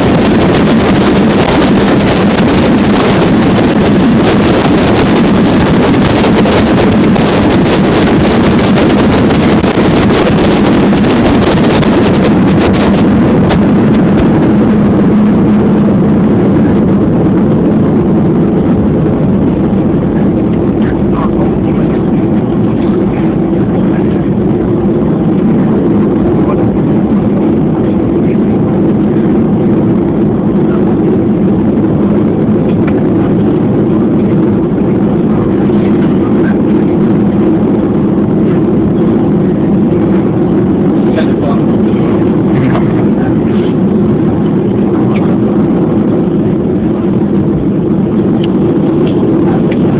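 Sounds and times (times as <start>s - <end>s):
jet engine and airflow rumble: 0.0s - 49.9s.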